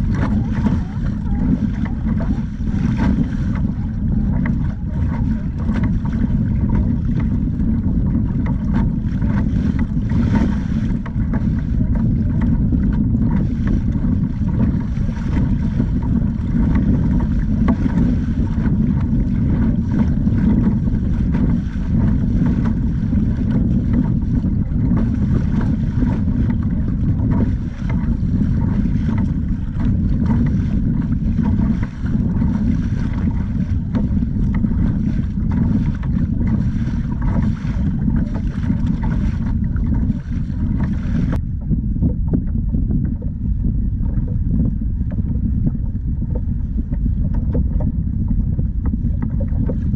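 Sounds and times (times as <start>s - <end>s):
water washing along hull: 0.0s - 49.9s
wind rumbling on microphone: 0.0s - 49.9s.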